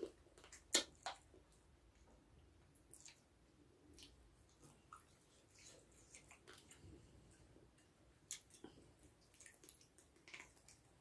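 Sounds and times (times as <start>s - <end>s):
wet chewing and smacking: 0.0s - 11.0s.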